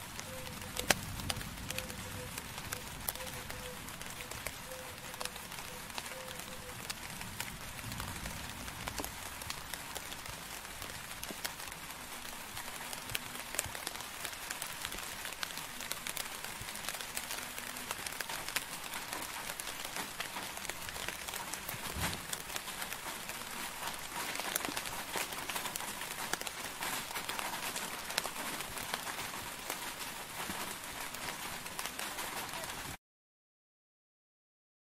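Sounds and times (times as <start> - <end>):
steady rain with dripping drops: 0.0 - 33.0.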